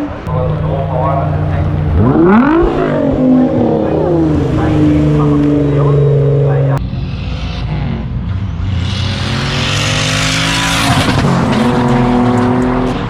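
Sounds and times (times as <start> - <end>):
turbocharged car engine accelerating: 0.2 - 13.0.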